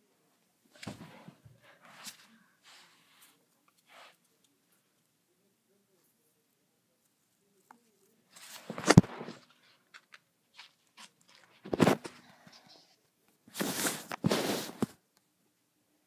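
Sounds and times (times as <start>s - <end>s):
rustling and rubbing handling noise: 0.0s - 15.2s.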